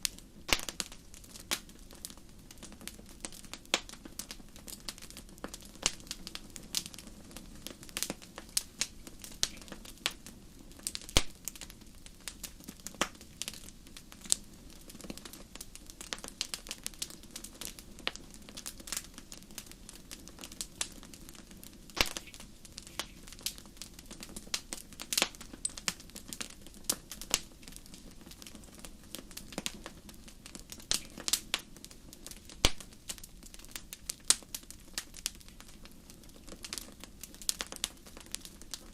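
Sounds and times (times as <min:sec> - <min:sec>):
hiss of flames: 0:00.0 - 0:38.9
wood fire crackling and popping: 0:00.0 - 0:38.9.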